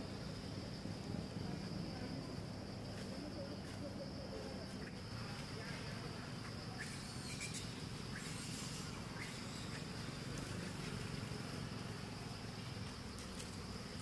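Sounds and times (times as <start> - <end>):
high insect drone: 0.0 - 14.0
low continuous rumble: 0.0 - 14.0.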